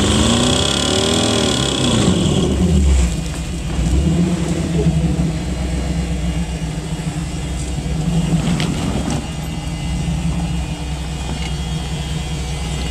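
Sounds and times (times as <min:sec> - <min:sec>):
engine running under load: 0:00.0 - 0:12.9.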